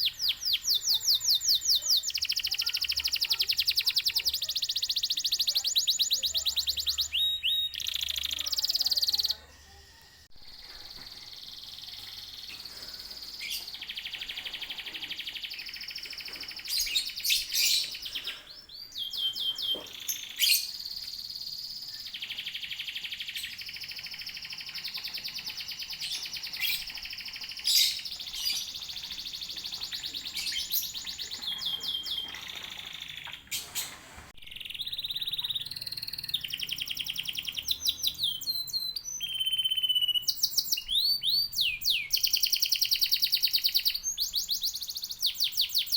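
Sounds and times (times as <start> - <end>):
canaries singing: 0.0 - 45.9.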